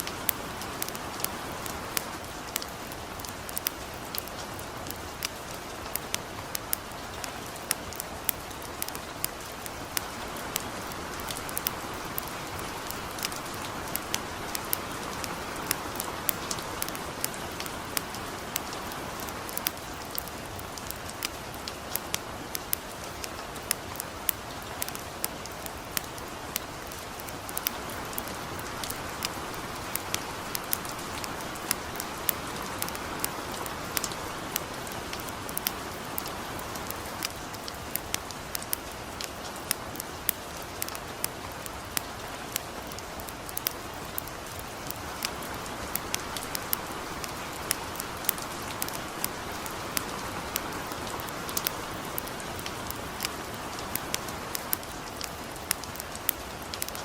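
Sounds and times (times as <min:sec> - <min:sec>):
campfire crackling and popping: 0:00.0 - 0:57.0
light rain hissing: 0:00.0 - 0:57.0.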